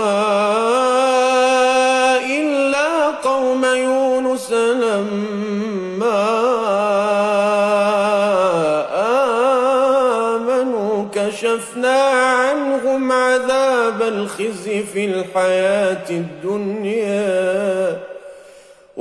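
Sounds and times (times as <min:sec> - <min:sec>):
man chanting melodically: 0:00.0 - 0:18.2.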